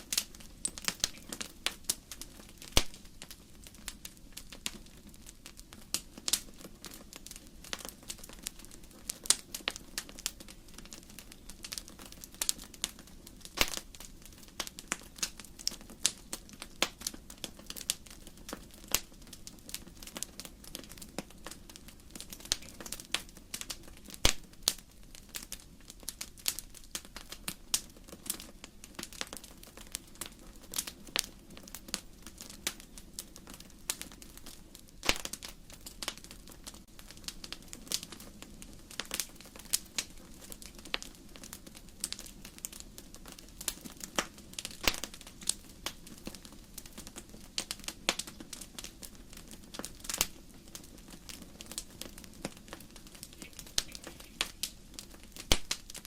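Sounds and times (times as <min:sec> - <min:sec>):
burning logs popping: 0:00.0 - 0:56.0
wood fire crackling: 0:00.0 - 0:56.0.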